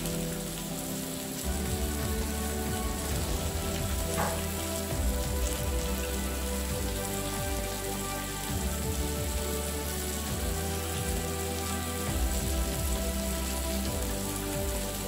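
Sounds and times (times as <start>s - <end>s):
background music: 0.0s - 15.0s
food sizzling on a grill: 0.0s - 15.0s.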